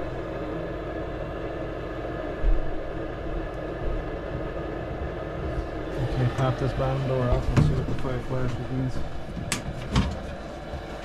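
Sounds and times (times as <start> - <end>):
mechanical running noise: 0.0 - 11.0.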